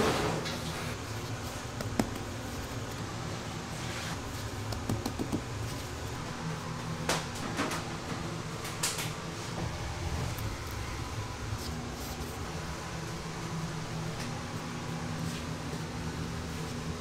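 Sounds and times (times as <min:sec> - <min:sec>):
kitchen ventilation hum: 0:00.0 - 0:17.0.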